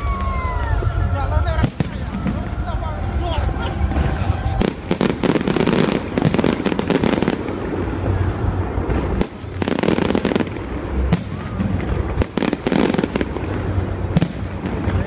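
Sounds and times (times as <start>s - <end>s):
continuous low rumble: 0.0s - 15.0s
fireworks crackling bangs: 0.0s - 15.0s.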